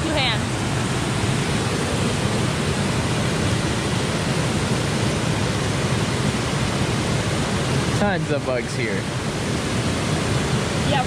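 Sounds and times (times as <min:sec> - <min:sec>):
water rushing over waterfall: 0:00.0 - 0:11.0.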